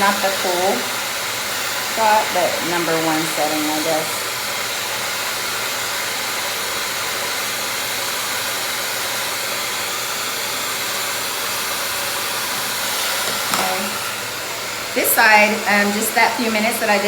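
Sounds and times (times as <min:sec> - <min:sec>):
hair dryer blowing air: 0:00.0 - 0:17.0.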